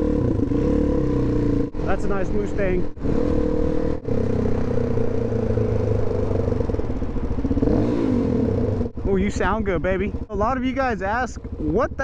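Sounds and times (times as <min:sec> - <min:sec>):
motorcycle engine revving: 0:00.0 - 0:12.0
motorcycle engine running: 0:00.0 - 0:12.0.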